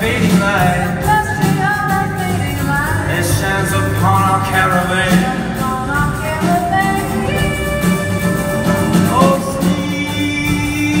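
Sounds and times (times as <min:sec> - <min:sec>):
drum kit: 0:00.0 - 0:11.0
jazz combo playing: 0:00.0 - 0:11.0
upright bass: 0:00.0 - 0:11.0.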